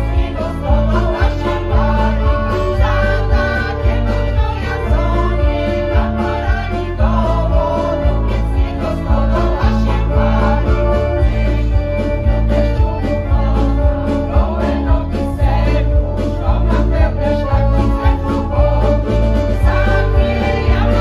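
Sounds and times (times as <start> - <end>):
piano accordion: 0.0 - 21.0
steady bass beat: 0.0 - 21.0
women's choir singing: 0.0 - 21.0.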